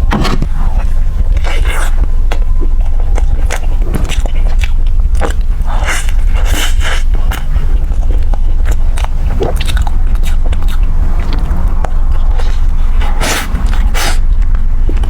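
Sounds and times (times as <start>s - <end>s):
person chewing food: 0.0s - 15.0s
steady low hum: 0.0s - 15.0s.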